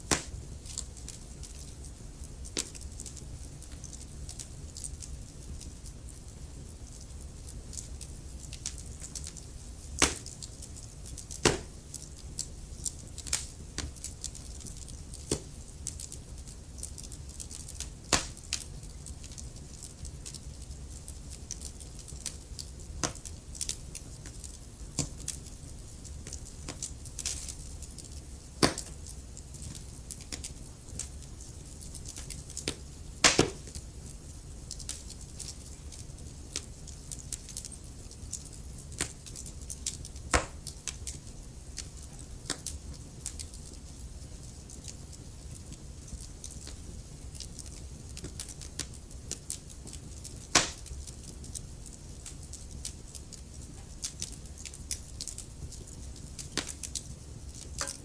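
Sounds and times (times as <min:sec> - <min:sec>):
burning logs crackling: 0:00.0 - 0:58.0.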